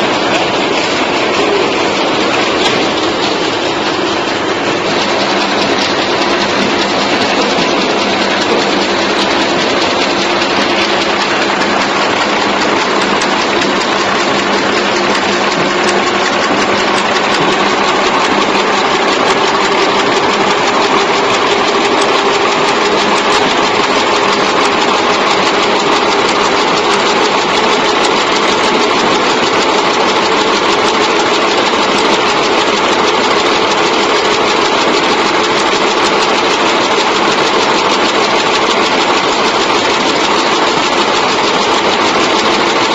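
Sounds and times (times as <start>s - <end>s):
machine hum: 0.0s - 42.9s
rapid mechanical clatter: 0.0s - 42.9s.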